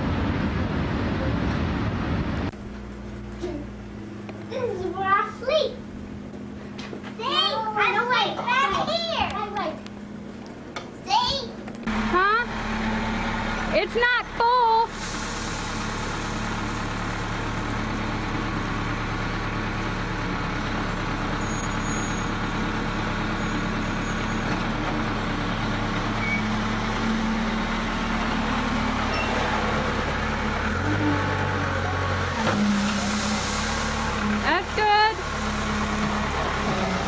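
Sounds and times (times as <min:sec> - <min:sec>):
backhoe engine running: 0:00.0 - 0:37.0.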